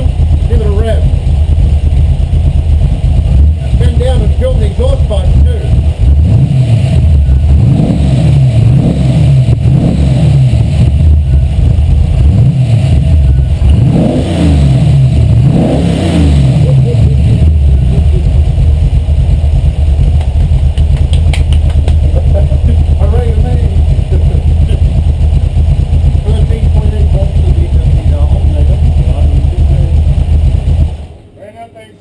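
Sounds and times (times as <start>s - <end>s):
car engine revving: 0.0s - 31.4s.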